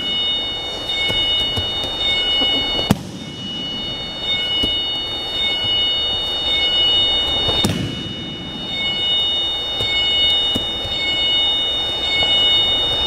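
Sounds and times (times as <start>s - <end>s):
faint high steady tones: 0.0s - 13.0s.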